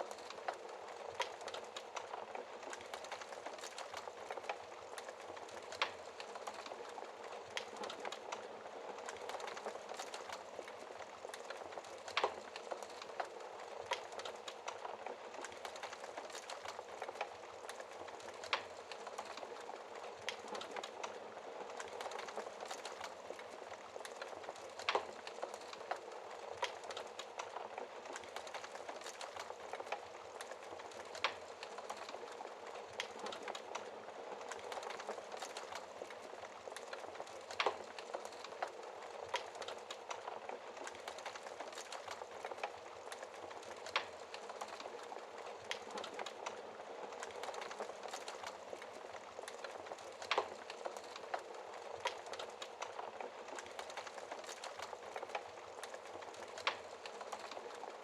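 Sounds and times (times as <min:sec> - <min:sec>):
fire crackling: 0:00.0 - 0:58.0.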